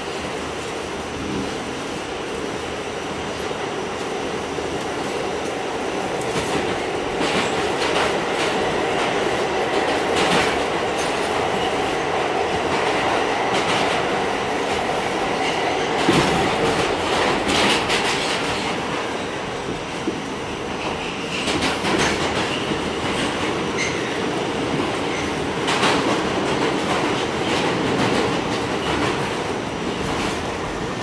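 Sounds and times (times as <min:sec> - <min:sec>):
subway car rumble and hum: 0:00.0 - 0:31.0.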